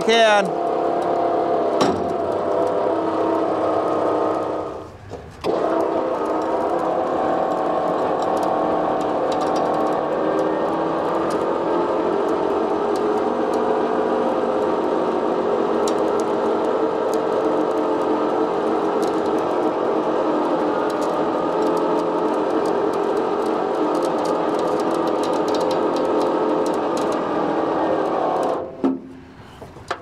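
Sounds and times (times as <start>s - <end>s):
engine running: 0.0s - 30.0s
winch whirring: 0.0s - 30.0s.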